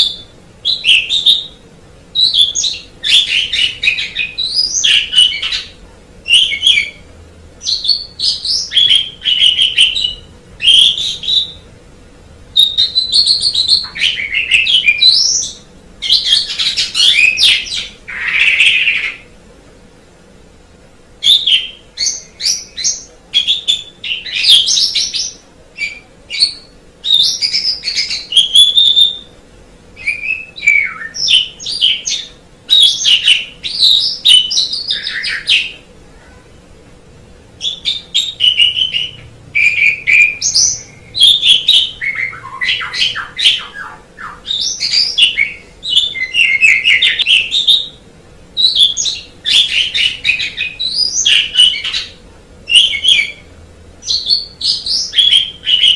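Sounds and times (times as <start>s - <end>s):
starling singing: 0.0s - 11.8s, 12.5s - 19.4s, 21.2s - 29.4s, 30.0s - 35.9s, 37.6s - 55.9s.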